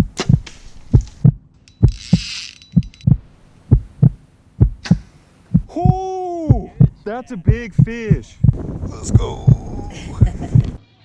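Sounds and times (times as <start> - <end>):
dull low thumps: 0.0 - 10.8.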